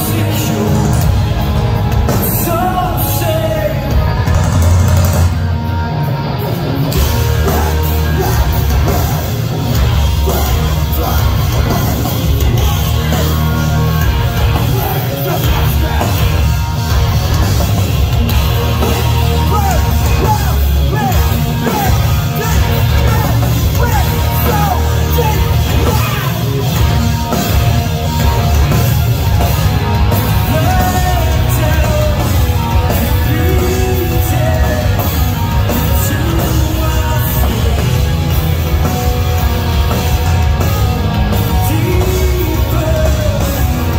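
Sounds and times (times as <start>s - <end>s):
singer yelling and singing: 0.0s - 6.1s, 6.9s - 43.9s
metalcore band playing: 0.0s - 43.9s.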